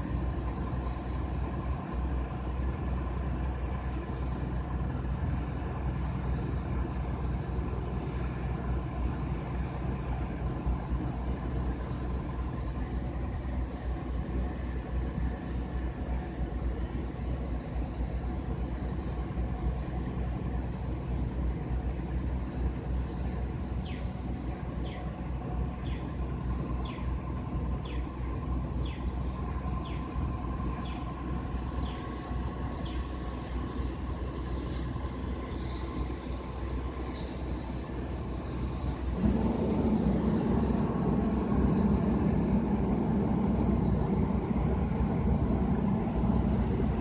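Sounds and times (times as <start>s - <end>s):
faint steady whine: 0.0s - 47.0s
fire truck engines rumbling: 0.0s - 47.0s.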